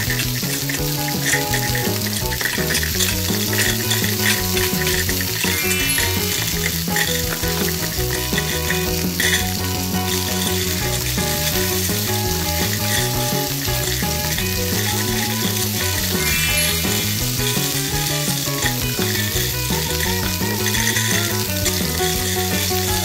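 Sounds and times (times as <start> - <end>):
food frying in a pan: 0.0 - 23.0.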